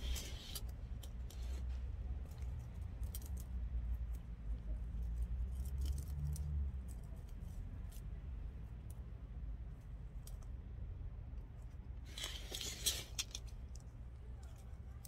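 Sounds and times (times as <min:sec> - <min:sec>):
clicks and crackles of dry leaves: 0:00.0 - 0:09.1, 0:11.6 - 0:15.0.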